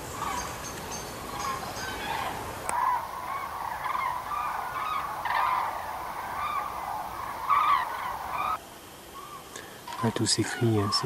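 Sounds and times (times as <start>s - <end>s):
flock of cranes calling: 0.0s - 11.0s.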